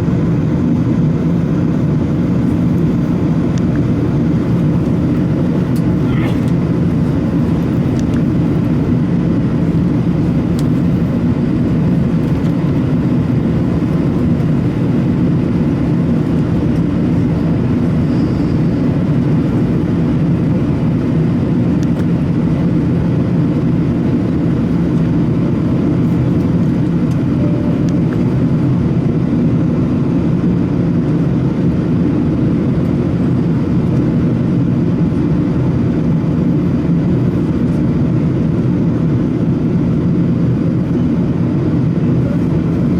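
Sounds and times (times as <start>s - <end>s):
airliner cabin engine drone: 0.0s - 42.9s.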